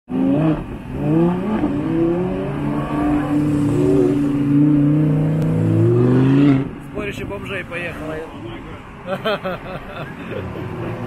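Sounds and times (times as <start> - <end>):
car engines revving: 0.1 - 11.0.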